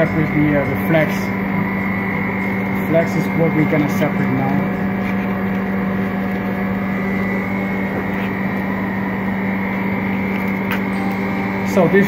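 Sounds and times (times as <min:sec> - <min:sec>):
freezer machine humming: 0:00.0 - 0:12.0
high whine: 0:00.0 - 0:12.0.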